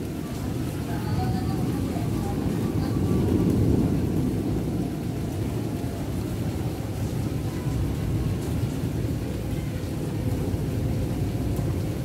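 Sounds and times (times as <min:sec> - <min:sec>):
low thunder rumble: 0:00.0 - 0:12.0.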